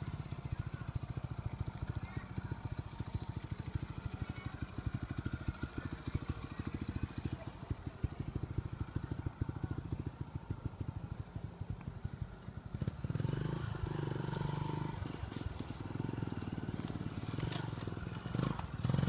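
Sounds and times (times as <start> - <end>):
motorcycle engine chugging: 0.0 - 19.0.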